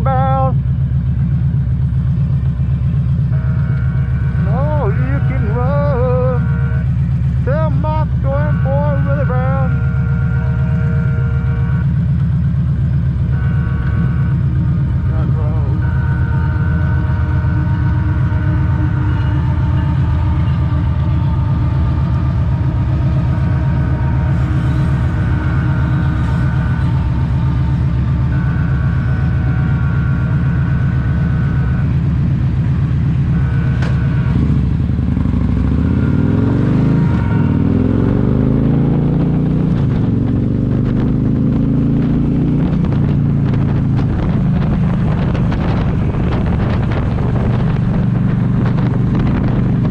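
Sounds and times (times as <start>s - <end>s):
vehicle drone with whining: 0.0s - 49.9s.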